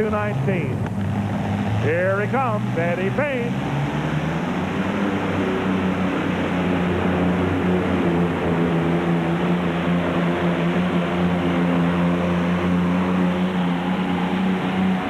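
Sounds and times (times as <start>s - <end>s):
tractor engine at full throttle: 0.0s - 15.0s.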